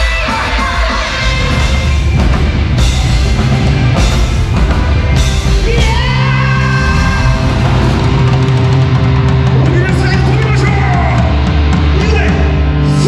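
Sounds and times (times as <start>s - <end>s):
drum kit beating: 0.0s - 13.0s
rock band playing live: 0.0s - 13.0s.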